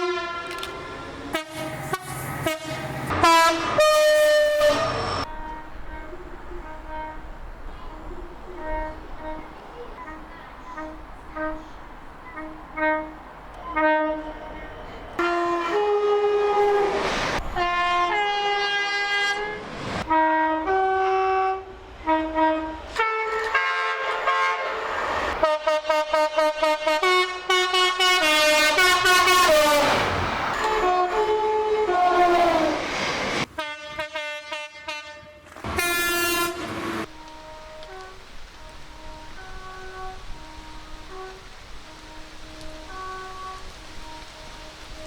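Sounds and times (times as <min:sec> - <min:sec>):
train horn blasts: 0:00.0 - 0:32.8, 0:33.4 - 0:45.0.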